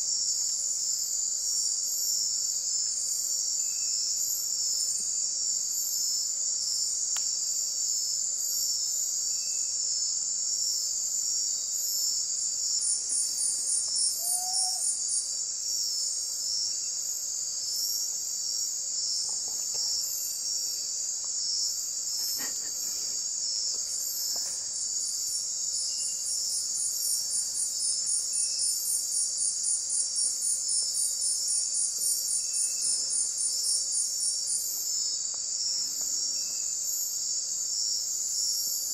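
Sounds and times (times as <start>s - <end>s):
insect pulsing trill: 0.0s - 38.9s
crickets shrilling: 0.1s - 38.9s.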